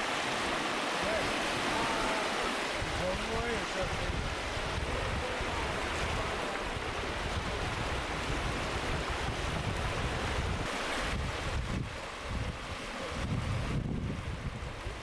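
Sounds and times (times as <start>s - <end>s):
wind buffeting microphone: 2.5s - 15.0s.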